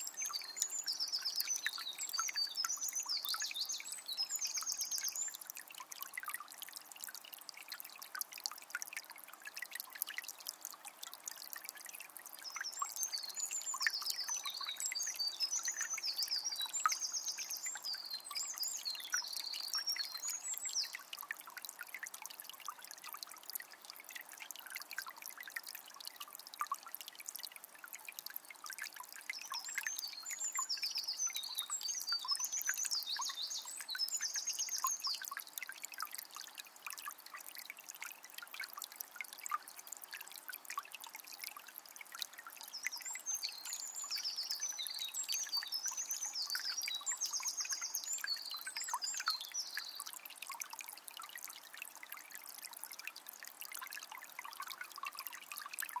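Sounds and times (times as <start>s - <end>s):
river trickling and babbling: 0.0s - 56.0s.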